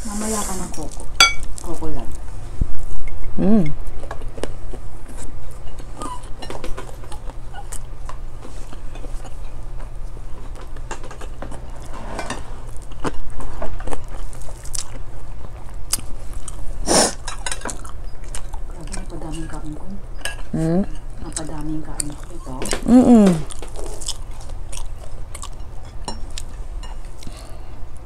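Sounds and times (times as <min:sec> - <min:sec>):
people chewing food: 0:02.8 - 0:28.0.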